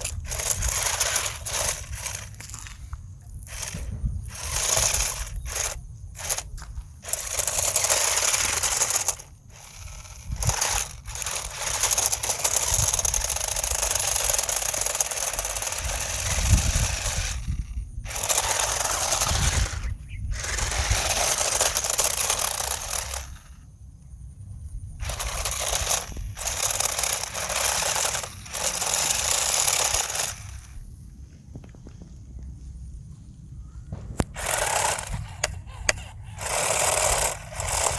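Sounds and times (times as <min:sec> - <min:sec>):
toy car electric motor buzzing: 0:00.0 - 0:23.7, 0:25.0 - 0:30.9, 0:34.2 - 0:37.9.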